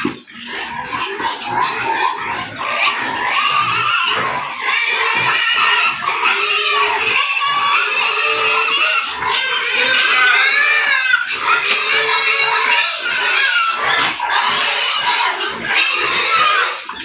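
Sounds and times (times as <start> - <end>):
pigs calling: 0.0 - 17.0.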